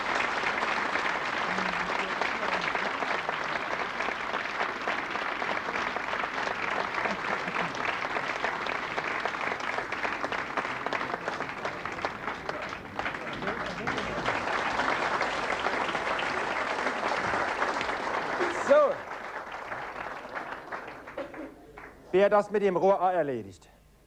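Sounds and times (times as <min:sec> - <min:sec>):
audience applauding: 0:00.0 - 0:22.1.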